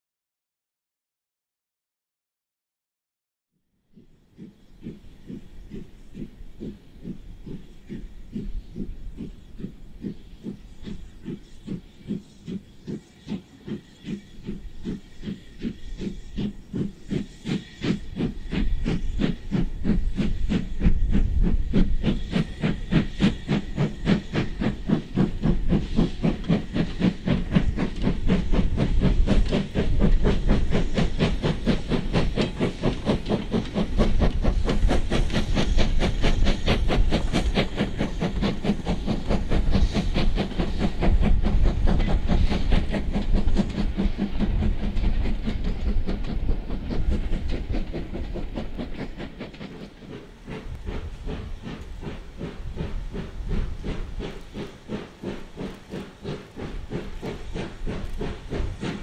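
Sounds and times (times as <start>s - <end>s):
steam locomotive exhaust beats: 3.8s - 59.0s
train rumbling on rails: 3.8s - 59.0s.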